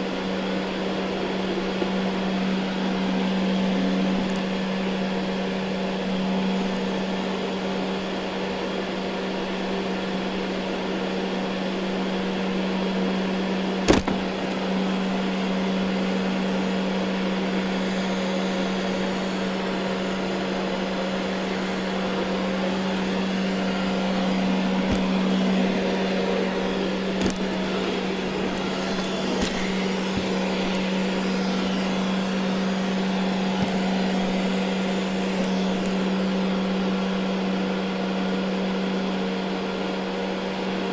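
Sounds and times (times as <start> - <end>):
robot vacuum running over carpet: 0.0 - 40.9.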